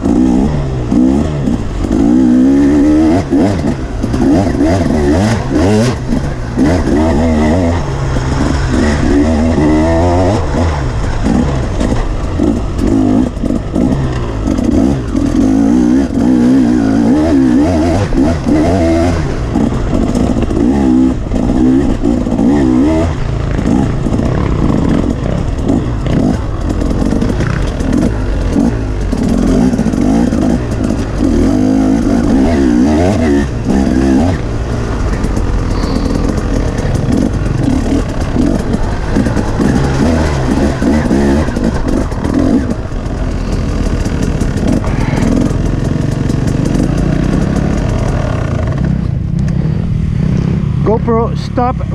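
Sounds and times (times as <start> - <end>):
chassis clatter over bumps: 0.0 - 51.9
dirt bike engine revving: 0.0 - 51.9.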